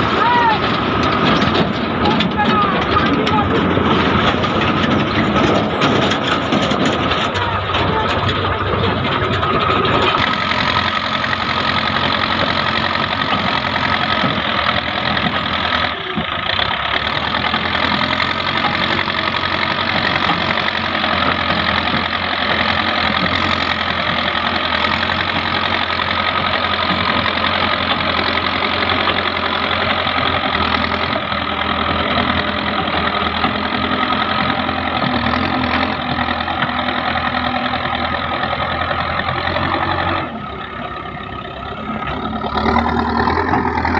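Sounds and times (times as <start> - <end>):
diesel engine running steadily: 0.0 - 43.9.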